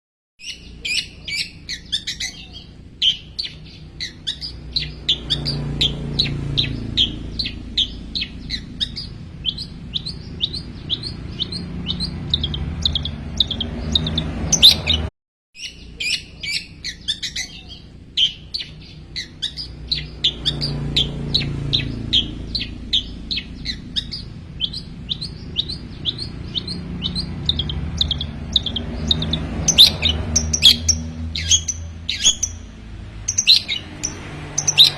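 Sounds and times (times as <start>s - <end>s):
bird singing sharp high chirps: 0.4s - 34.9s
low hum: 0.6s - 15.1s, 15.7s - 34.9s.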